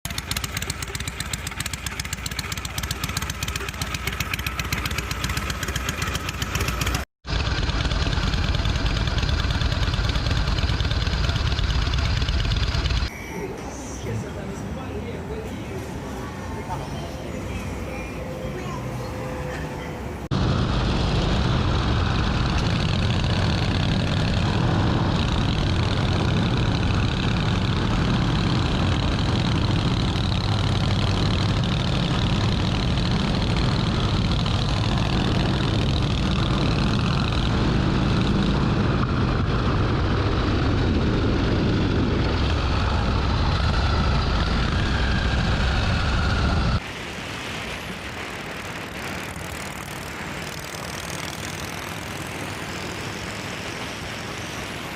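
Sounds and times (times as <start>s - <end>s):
motorcycle engine running: 0.0s - 13.1s, 20.3s - 46.8s, 48.3s - 54.9s.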